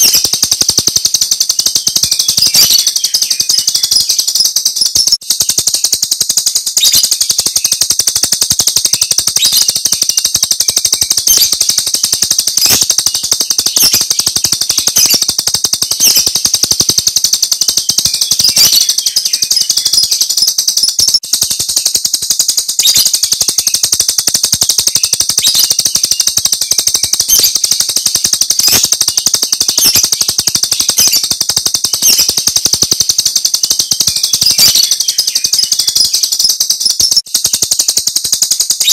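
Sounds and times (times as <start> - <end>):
bird song rapid shrill notes: 0.0 - 38.9.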